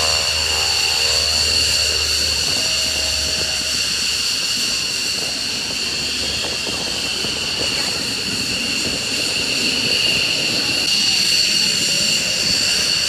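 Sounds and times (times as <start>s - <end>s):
jet engine whine: 0.0s - 13.0s.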